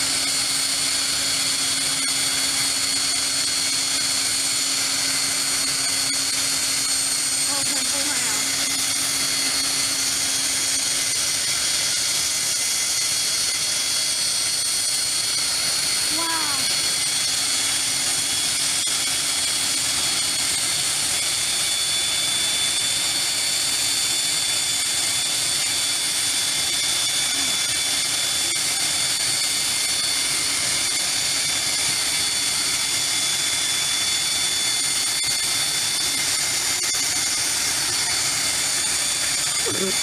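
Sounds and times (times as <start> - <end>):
aircraft turbine engine whine: 0.0 - 40.0.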